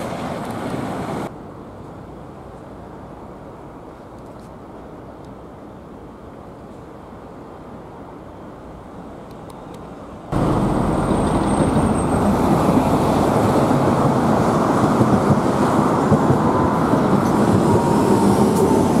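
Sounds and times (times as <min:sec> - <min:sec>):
road vehicles rumbling: 0:00.0 - 0:19.0.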